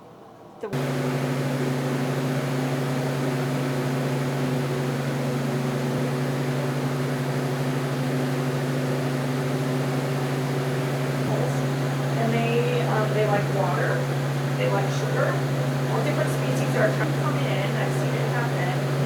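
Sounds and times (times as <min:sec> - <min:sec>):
machine hum with hiss: 0:00.7 - 0:19.0.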